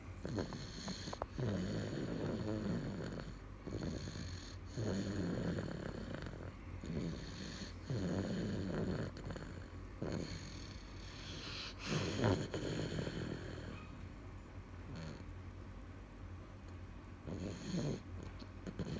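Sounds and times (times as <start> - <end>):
baby snoring: 0.2 - 13.9, 17.2 - 18.9.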